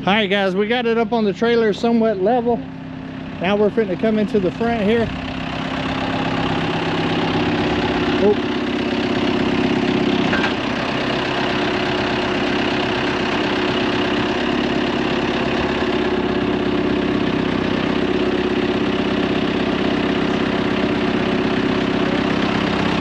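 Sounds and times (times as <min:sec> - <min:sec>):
forklift engine idling: 0:00.0 - 0:23.0.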